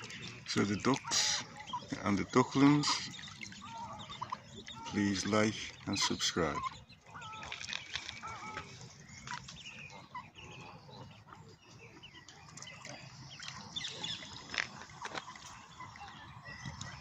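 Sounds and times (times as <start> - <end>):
ducks and ducklings peeping: 0.0 - 17.0.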